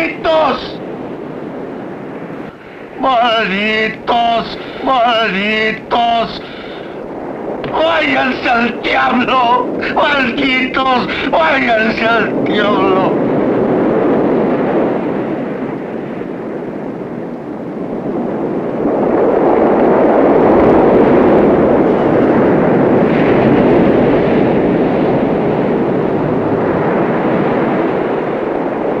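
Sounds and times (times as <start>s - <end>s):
ocean surf washing on beach: 0.0s - 29.0s.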